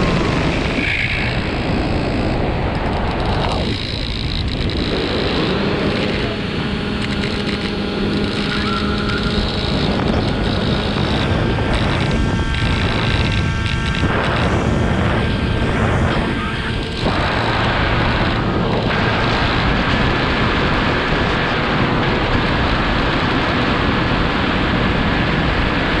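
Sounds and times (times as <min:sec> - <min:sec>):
drone motors humming: 0:00.0 - 0:26.0
wind on microphone: 0:00.0 - 0:26.0.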